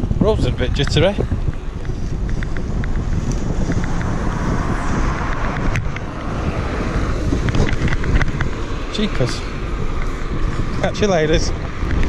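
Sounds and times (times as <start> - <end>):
trike rolling on rough road: 0.0 - 12.0
wind buffeting microphone: 0.0 - 12.0.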